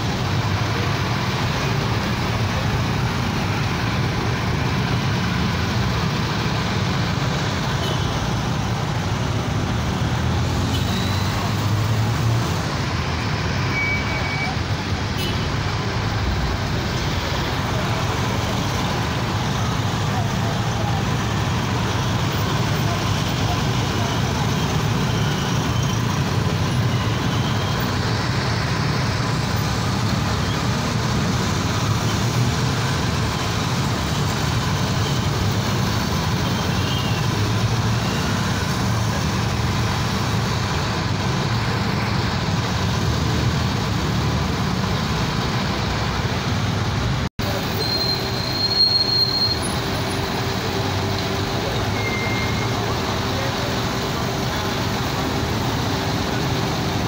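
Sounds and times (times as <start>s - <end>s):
street traffic noise: 0.0s - 57.0s.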